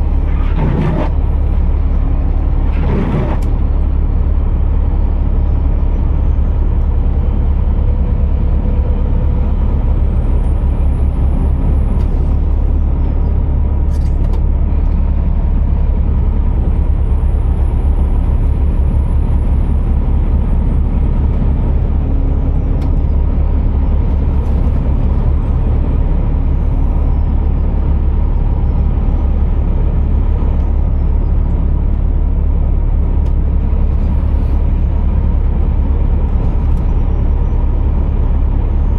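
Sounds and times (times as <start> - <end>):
truck engine drone: 0.0 - 38.9.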